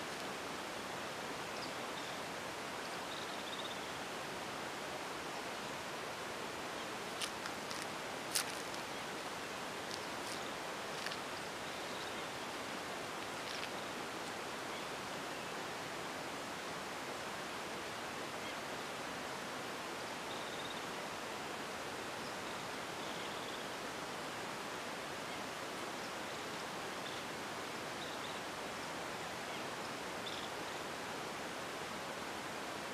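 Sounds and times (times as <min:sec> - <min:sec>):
outdoor ambience hiss: 0:00.0 - 0:32.9.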